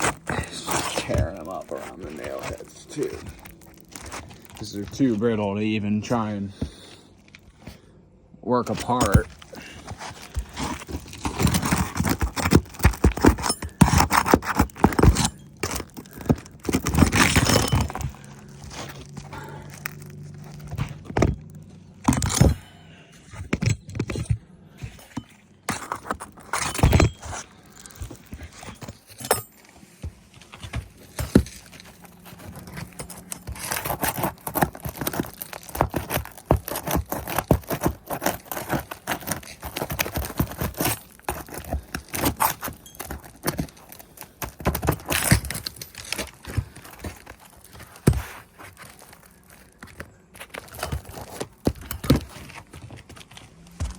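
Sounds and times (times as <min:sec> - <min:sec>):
hand tool scraping roof shingles: 0:00.0 - 0:05.5, 0:08.7 - 0:53.9
shingles tearing: 0:00.0 - 0:05.5, 0:08.7 - 0:53.9.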